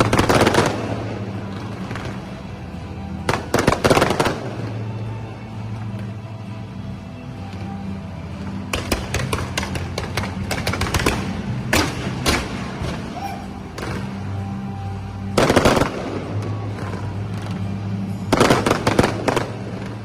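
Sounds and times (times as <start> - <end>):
fireworks cracking and banging: 0.0 - 5.2, 8.4 - 14.6, 15.2 - 20.0
music with low drone: 0.0 - 20.0.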